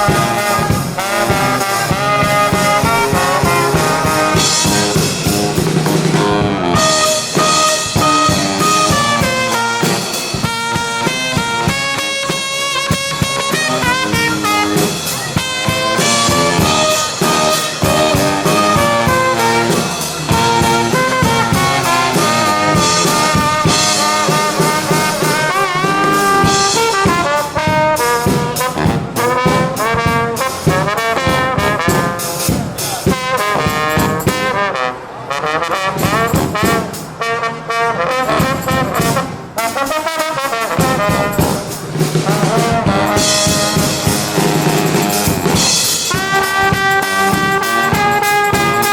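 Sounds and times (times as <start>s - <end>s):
drum hits: 0.0s - 34.6s, 40.7s - 48.9s
brass band playing: 0.0s - 48.9s.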